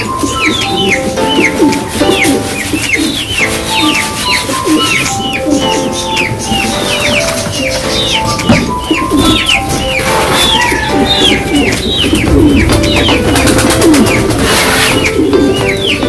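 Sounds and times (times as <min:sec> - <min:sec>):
pigeons cooing: 0:00.0 - 0:16.0
small birds chirping: 0:00.0 - 0:16.0.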